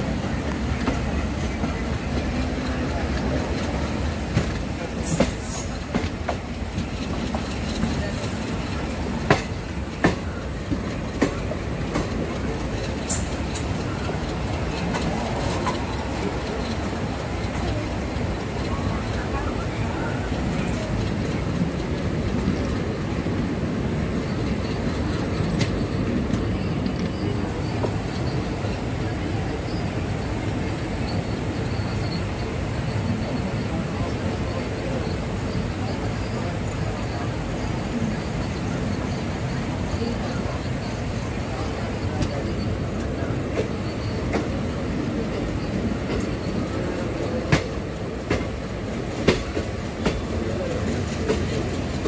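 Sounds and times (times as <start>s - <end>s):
trains rumbling on track: 0.0s - 52.0s
wheels clacking over rail joints: 0.0s - 52.0s.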